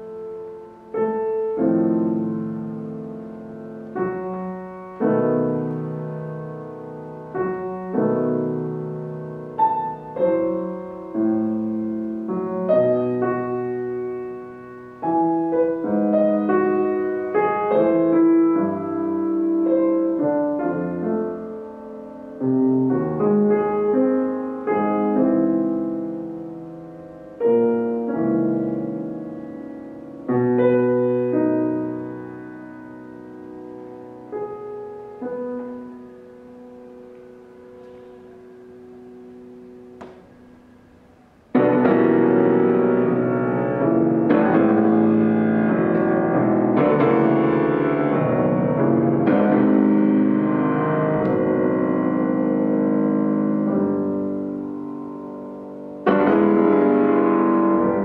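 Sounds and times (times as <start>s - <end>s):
solo classical piano piece: 0.0s - 58.0s.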